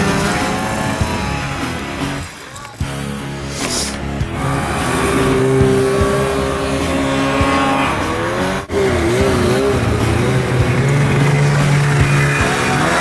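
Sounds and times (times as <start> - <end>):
snowmobile engine revving: 0.0 - 13.0
snowmobile engine running: 0.0 - 13.0.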